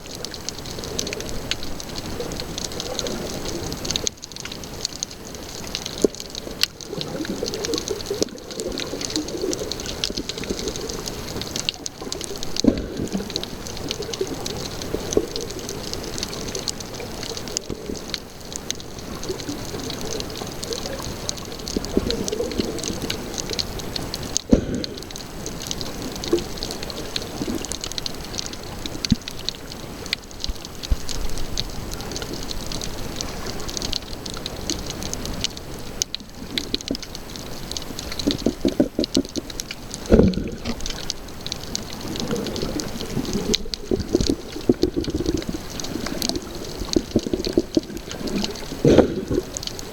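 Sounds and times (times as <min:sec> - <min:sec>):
water sloshing and bubbling: 0:00.0 - 0:49.9
sharp clicks and pops: 0:00.1 - 0:49.9.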